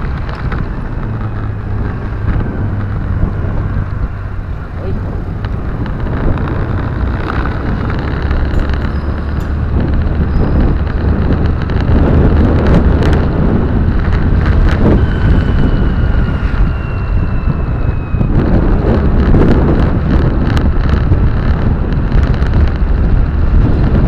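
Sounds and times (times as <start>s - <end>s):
car engine and road drone: 0.0s - 24.0s.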